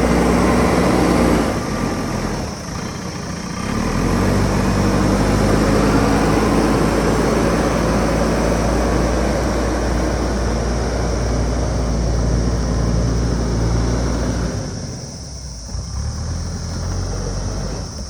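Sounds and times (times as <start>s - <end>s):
backhoe diesel engine running: 0.0s - 18.0s.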